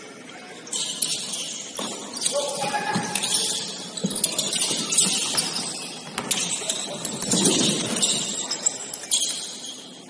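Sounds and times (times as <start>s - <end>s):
hum of indoor hall: 0.0s - 10.0s
sneakers squeaking on court: 0.6s - 10.0s.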